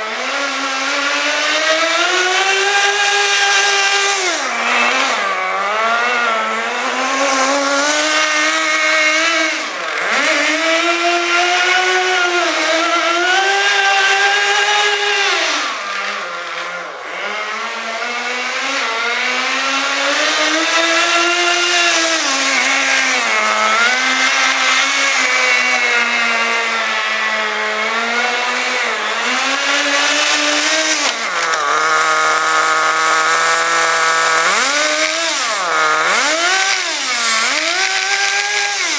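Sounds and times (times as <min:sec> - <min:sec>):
small nitro engine revving: 0:00.0 - 0:38.9.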